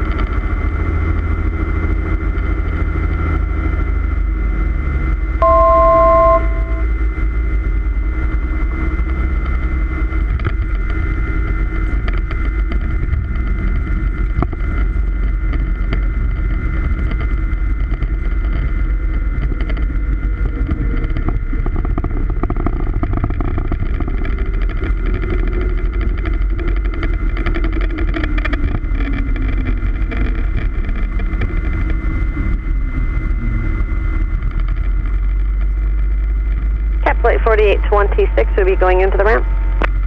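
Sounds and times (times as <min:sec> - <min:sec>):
airplane engine and propeller droning: 0:00.0 - 0:40.0.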